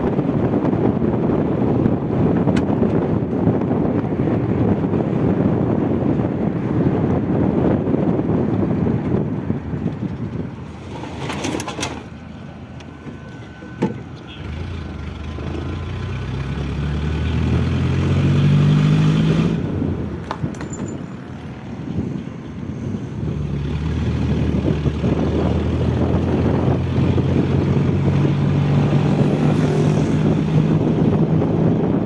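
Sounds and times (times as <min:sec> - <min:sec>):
truck engine accelerating: 0:00.0 - 0:20.5, 0:21.5 - 0:32.0.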